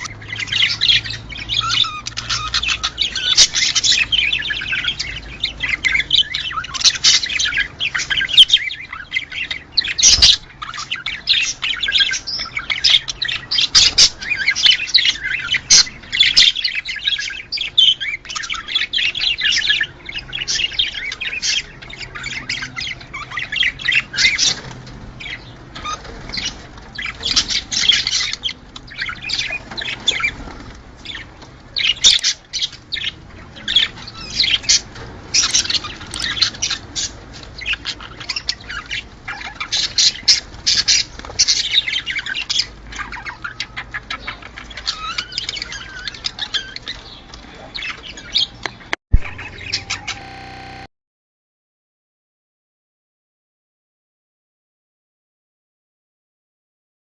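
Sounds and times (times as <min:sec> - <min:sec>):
budgerigars chattering: 0:00.0 - 0:50.9.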